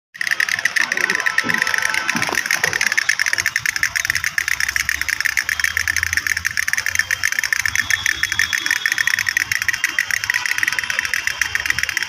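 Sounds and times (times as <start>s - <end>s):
toy motor whirring: 0.2s - 12.0s.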